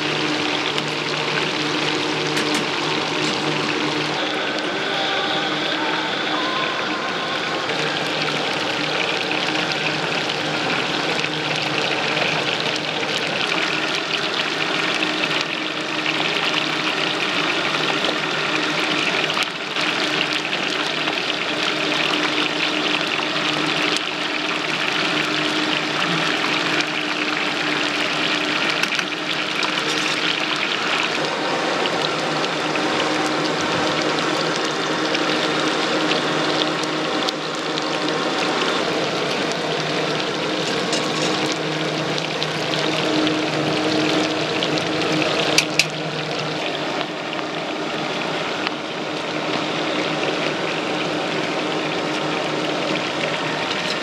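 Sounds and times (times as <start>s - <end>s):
faint steady hum: 0.0s - 54.0s
oil sizzling and crackling: 0.0s - 54.0s.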